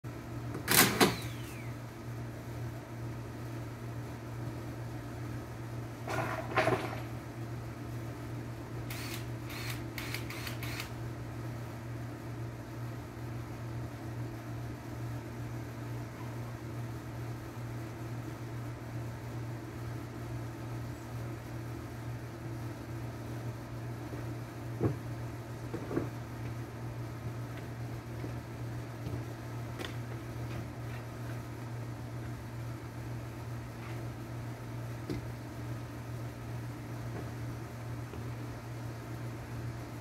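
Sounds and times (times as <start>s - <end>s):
low machine hum: 0.1s - 40.0s.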